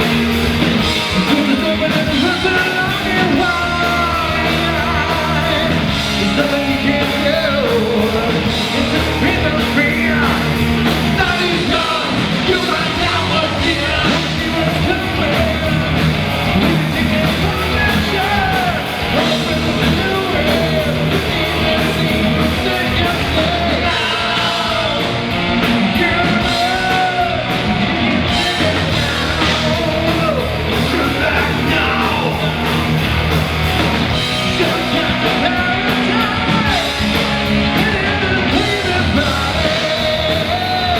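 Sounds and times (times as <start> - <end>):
rock band playing live: 0.0 - 40.9
person singing and shouting: 0.1 - 40.9.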